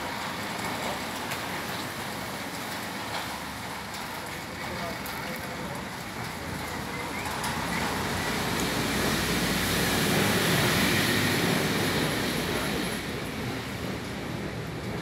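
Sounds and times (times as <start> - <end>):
sliding gate rolling on track: 0.0 - 14.1.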